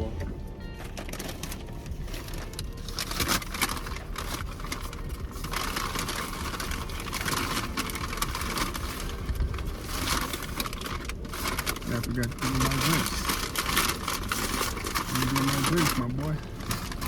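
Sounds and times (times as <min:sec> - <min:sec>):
car engine idling: 0:00.0 - 0:17.0
paper bag rustling: 0:00.0 - 0:17.0.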